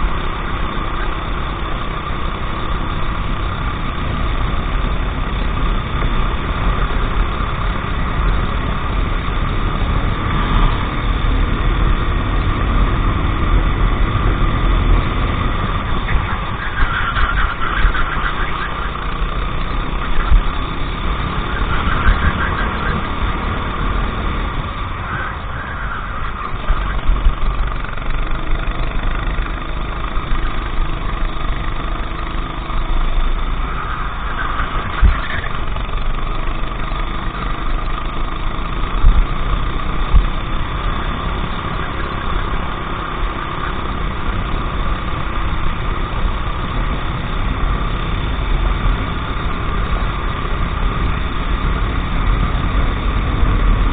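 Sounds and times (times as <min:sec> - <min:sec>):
racing kart engine revving: 0:00.0 - 0:53.9.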